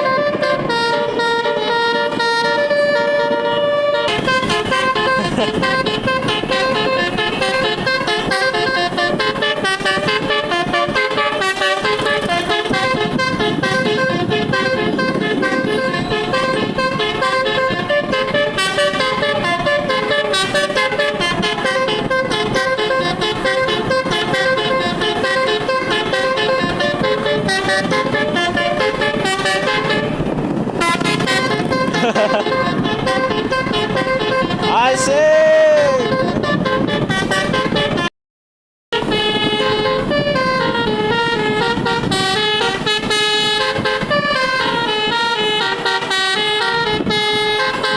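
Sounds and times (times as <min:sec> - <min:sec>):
multi-trumpet air horn tune: 0:00.0 - 0:38.1, 0:39.0 - 0:47.9.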